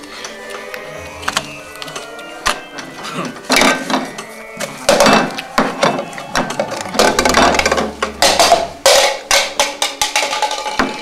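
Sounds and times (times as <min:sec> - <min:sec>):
plates and dishes clattering: 0:01.2 - 0:11.0.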